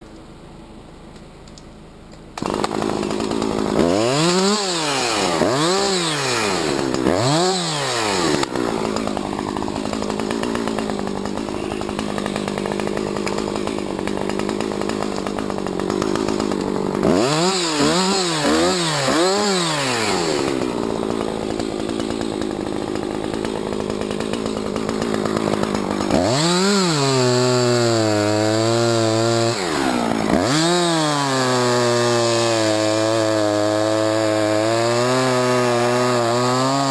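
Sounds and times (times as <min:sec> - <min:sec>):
chainsaw revving and cutting: 0:02.3 - 0:36.9.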